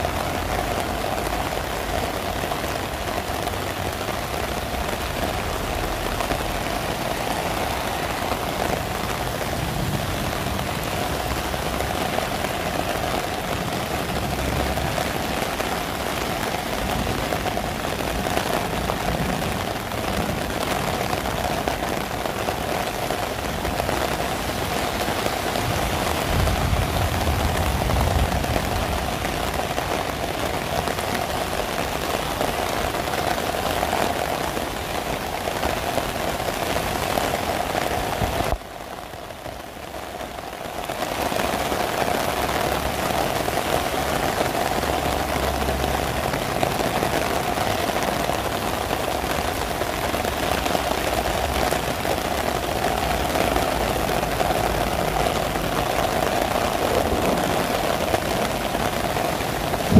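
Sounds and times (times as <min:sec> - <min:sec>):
cars passing on wet road: 0:00.0 - 0:59.9
rain pattering on umbrella: 0:00.0 - 0:59.9.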